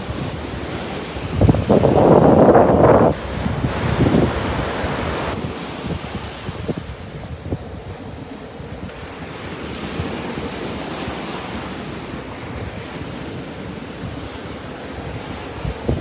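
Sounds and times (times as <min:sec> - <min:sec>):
waves washing up a beach: 0:00.0 - 0:16.0
wind buffeting microphone: 0:00.0 - 0:16.0.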